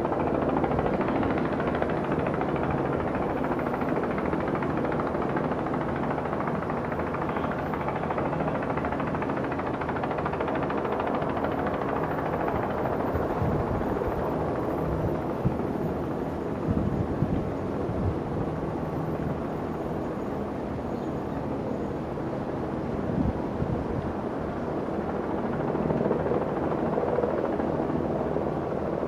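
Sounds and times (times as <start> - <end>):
outdoor noise: 0.0 - 29.0.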